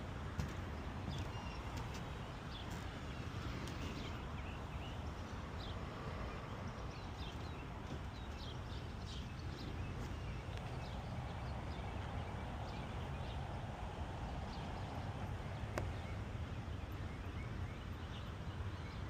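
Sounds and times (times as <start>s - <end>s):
steady low rumble: 0.0s - 17.0s
small birds chirping: 0.3s - 19.0s.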